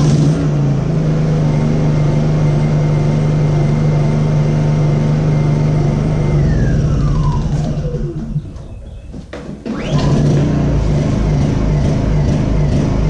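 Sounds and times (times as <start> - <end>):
generator engine whining: 0.0 - 13.0.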